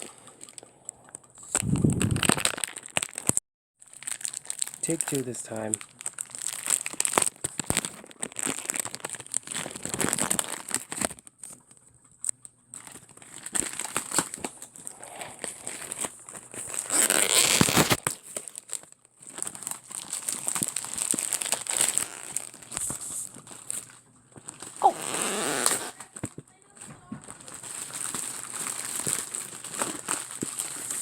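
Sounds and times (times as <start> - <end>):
plastic wrap crinkling: 0.0 - 31.0.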